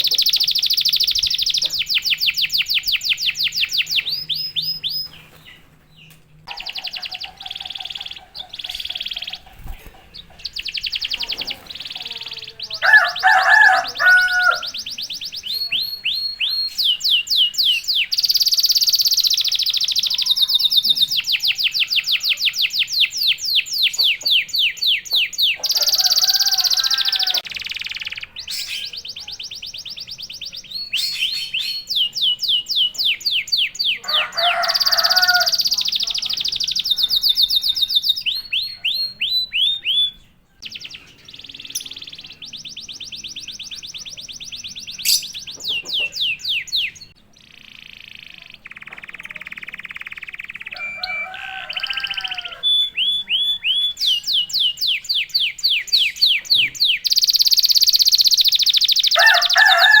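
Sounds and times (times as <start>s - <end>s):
canary singing trills: 0.0s - 60.0s.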